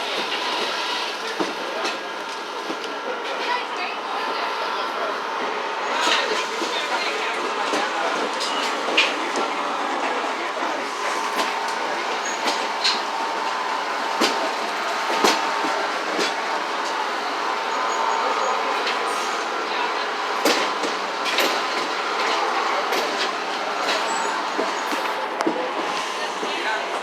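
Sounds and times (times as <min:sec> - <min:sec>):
train car rattling over track: 0:00.0 - 0:27.0.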